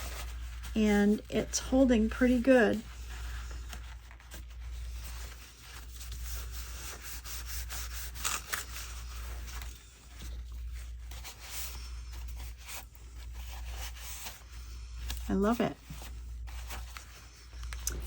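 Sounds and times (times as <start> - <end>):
paper rustling and scraping: 0.0 - 18.0
steady low hum: 0.0 - 18.0.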